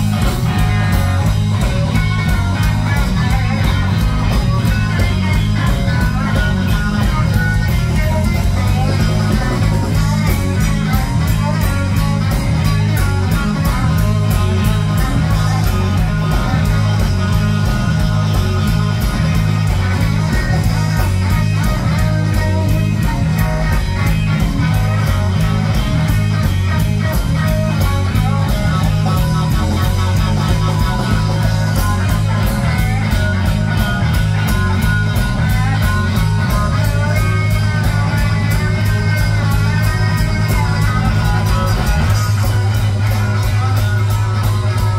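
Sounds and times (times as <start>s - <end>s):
electric guitar bent notes: 0.0s - 44.9s
live rock band playing: 0.0s - 44.9s.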